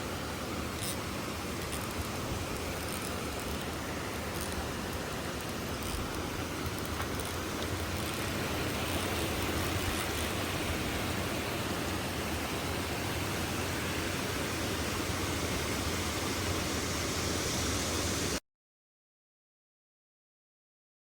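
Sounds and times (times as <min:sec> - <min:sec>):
stream water rushing: 0:00.0 - 0:18.4.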